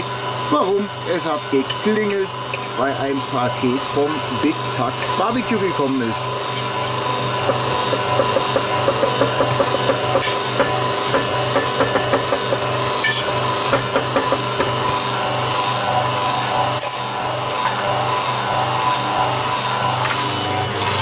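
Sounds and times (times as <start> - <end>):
stand mixer running: 0.0 - 21.0.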